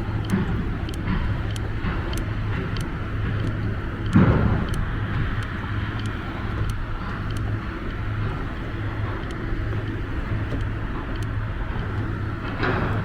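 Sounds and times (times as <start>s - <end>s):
faint metallic ticks: 0.0s - 13.0s.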